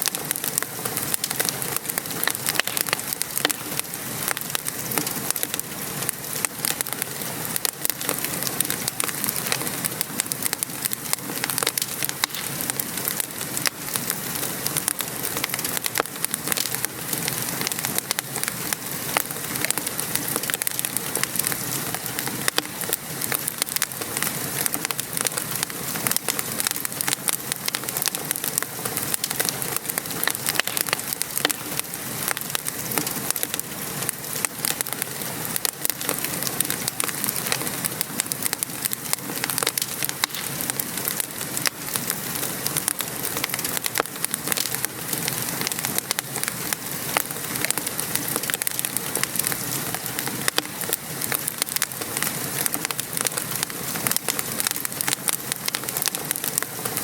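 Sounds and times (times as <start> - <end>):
rain patter: 0.0 - 57.0
wood fire crackling: 0.0 - 57.0.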